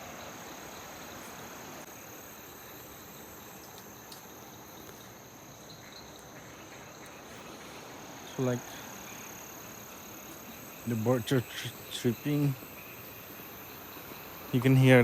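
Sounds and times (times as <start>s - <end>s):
insects shrilling: 0.0s - 15.0s.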